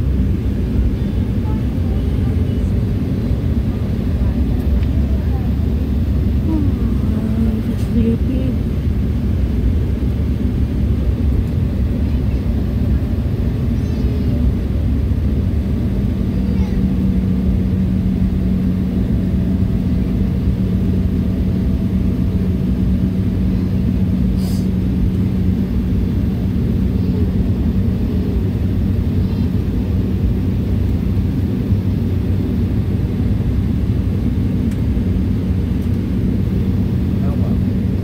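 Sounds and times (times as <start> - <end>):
constant low hum: 0.0 - 38.0
jet engine low rumble: 0.0 - 38.0.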